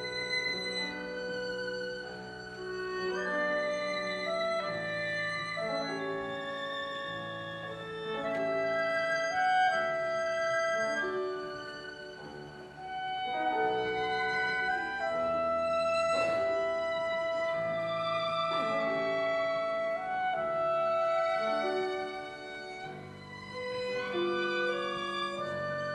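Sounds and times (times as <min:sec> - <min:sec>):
flute and clarinet: 0:00.0 - 0:25.9
violins playing melody: 0:00.0 - 0:25.9.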